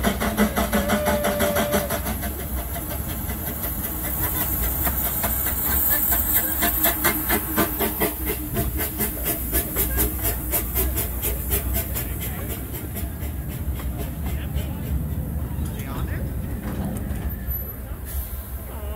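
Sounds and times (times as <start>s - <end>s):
steam locomotive chuffing: 0.0s - 18.9s.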